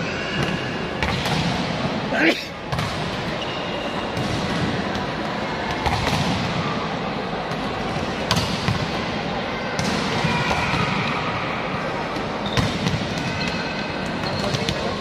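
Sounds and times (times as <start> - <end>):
background hubbub: 0.0 - 15.0.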